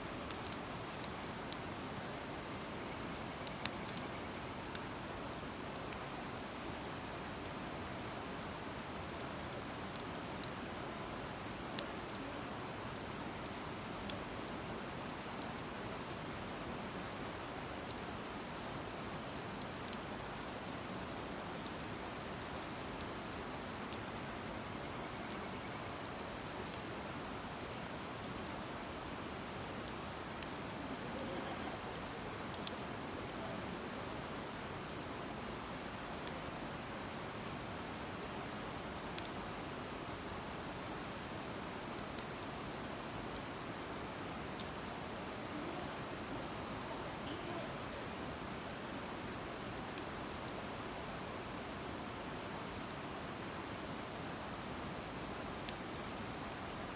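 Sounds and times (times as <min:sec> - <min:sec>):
wood fire crackling: 0:00.1 - 0:56.9.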